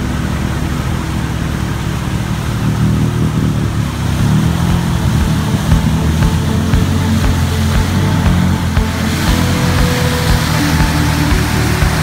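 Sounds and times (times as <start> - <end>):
quad engine running hard: 0.0 - 12.0.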